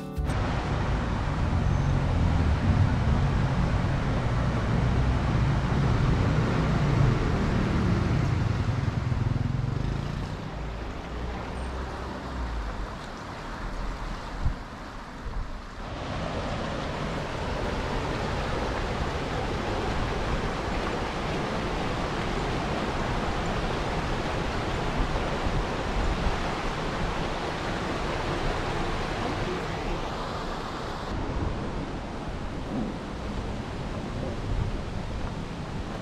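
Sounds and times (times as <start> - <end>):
rushing water: 0.3 - 36.0.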